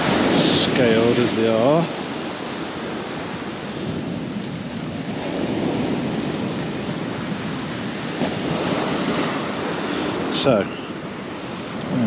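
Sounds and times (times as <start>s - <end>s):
surf rushing: 0.0s - 12.0s
wind on microphone: 0.0s - 12.0s.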